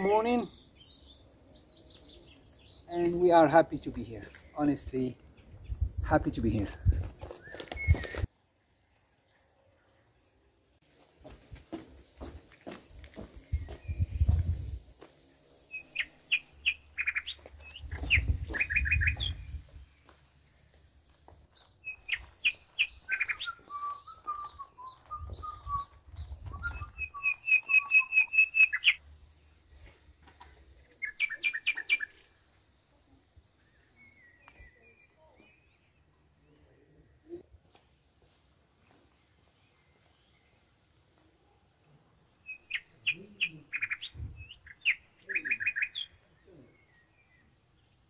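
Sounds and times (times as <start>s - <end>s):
songbirds chirping and trilling: 0.0s - 37.6s, 39.0s - 48.0s.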